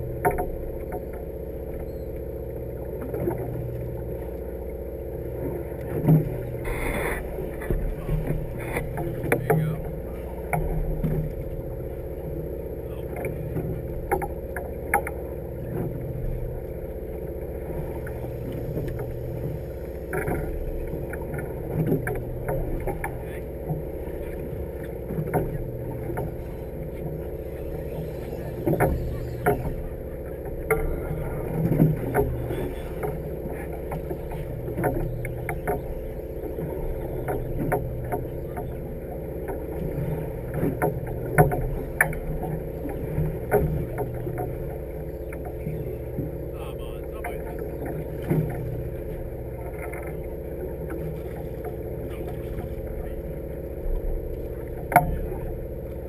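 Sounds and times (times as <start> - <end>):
boat engine hum: 0.0 - 56.0.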